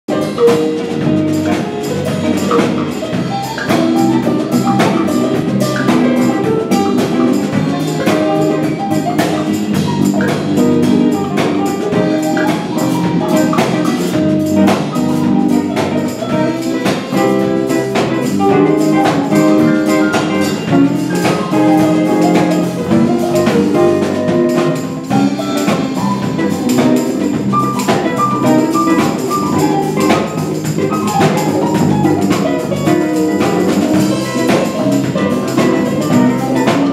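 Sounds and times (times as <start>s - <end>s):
drum kit: 0.1s - 36.9s
electric bass: 0.1s - 36.9s
hand drums: 0.1s - 36.9s
keyboard: 0.1s - 36.9s.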